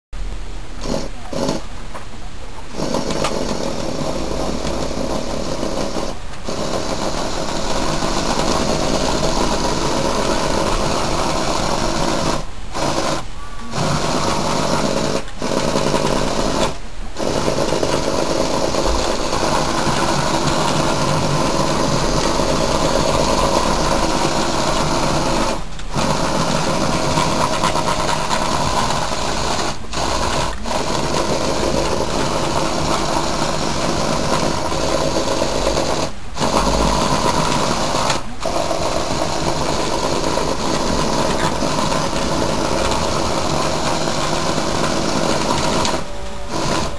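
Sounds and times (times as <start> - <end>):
toy motor whirring and rattling: 0.8 - 1.7, 2.7 - 46.9.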